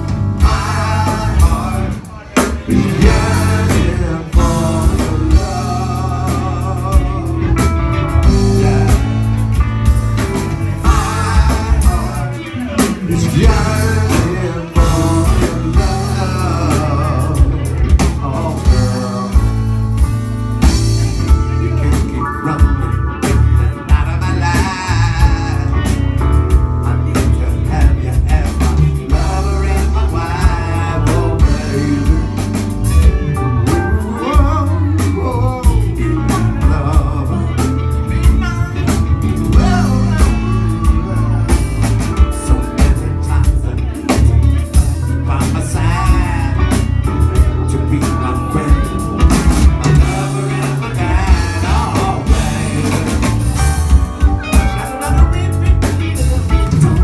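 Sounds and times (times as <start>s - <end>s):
live band playing a song: 0.0s - 57.0s.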